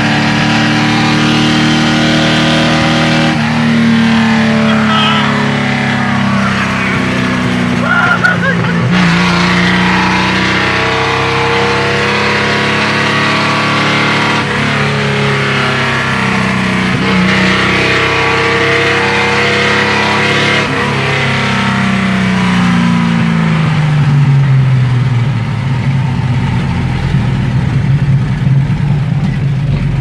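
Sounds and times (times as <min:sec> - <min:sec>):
engine through unmuffled exhaust: 0:00.0 - 0:30.0.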